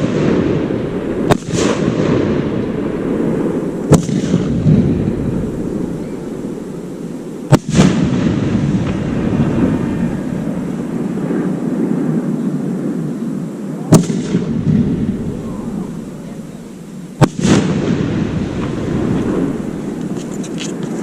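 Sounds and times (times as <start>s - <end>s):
fireworks bangs: 0.0s - 12.4s, 13.8s - 21.0s
steady low rumble: 0.0s - 21.0s.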